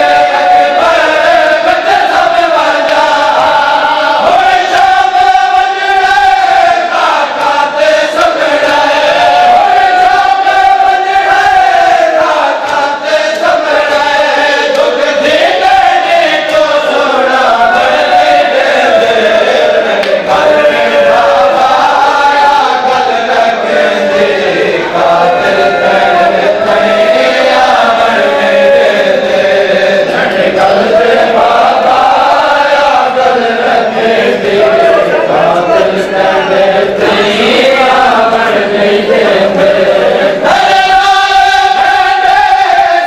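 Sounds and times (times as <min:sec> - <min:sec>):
men chanting a lament: 0:00.0 - 0:43.0.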